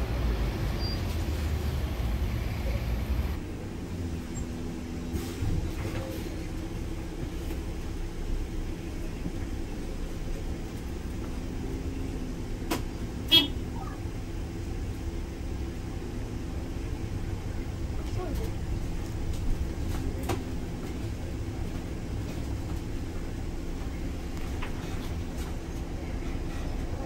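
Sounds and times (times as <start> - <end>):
bus engine drone: 0.0 - 27.0
road noise: 0.0 - 27.0.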